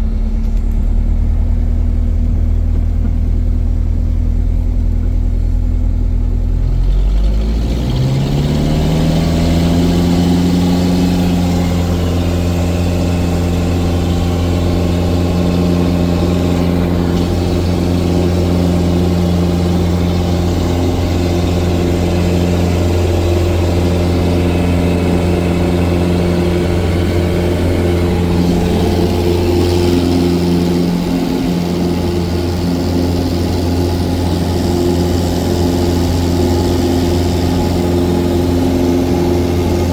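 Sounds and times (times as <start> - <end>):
airplane piston engine: 0.0 - 39.9.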